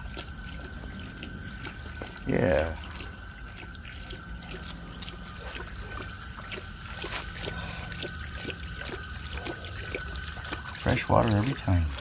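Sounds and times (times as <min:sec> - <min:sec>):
dog lapping water: 0:00.0 - 0:12.0
small splashy ticks: 0:00.0 - 0:12.0
water trickling: 0:00.0 - 0:12.0.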